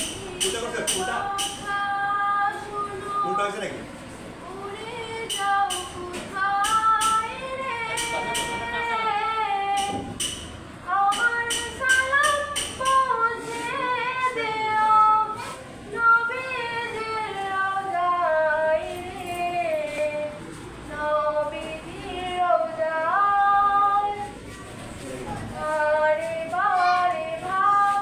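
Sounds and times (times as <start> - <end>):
girl singing devotional song: 0.0 - 28.0.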